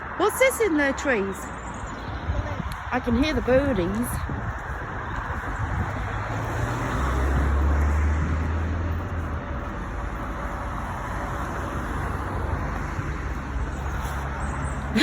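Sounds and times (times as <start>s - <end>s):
passing vehicles rushing: 0.0s - 15.0s
vehicle engine rumble: 1.2s - 15.0s.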